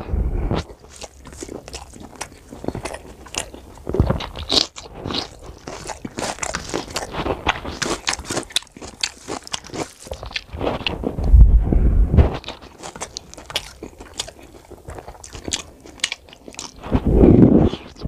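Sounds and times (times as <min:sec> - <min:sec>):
person chewing crisp cucumber: 0:00.4 - 0:11.4, 0:12.2 - 0:18.0.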